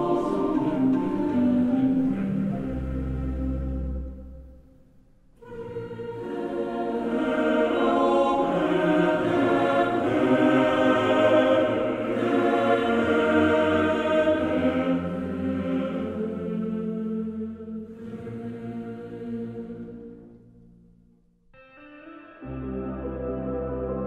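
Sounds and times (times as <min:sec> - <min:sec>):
choir holding long notes: 0:00.0 - 0:04.6, 0:05.4 - 0:20.8
background music: 0:00.0 - 0:24.0.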